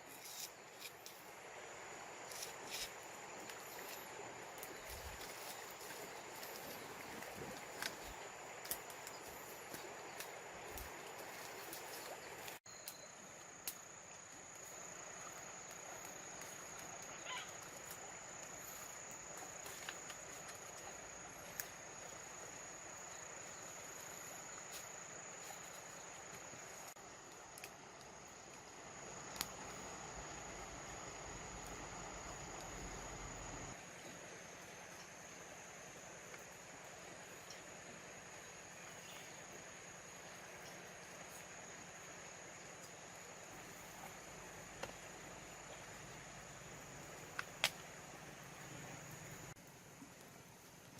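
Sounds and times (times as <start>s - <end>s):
faint outdoor hiss: 0.0s - 50.9s
high insect drone: 0.0s - 50.9s.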